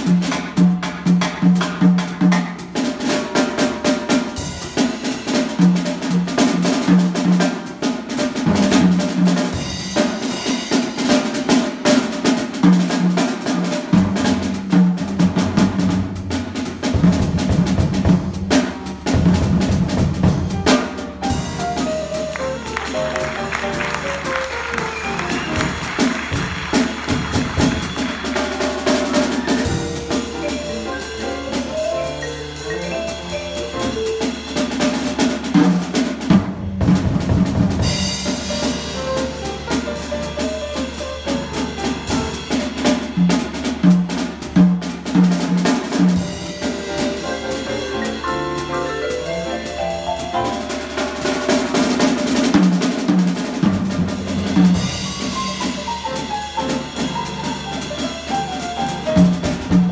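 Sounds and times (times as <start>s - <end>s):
drum kit: 0.0s - 59.9s
jazz group playing: 0.0s - 59.9s.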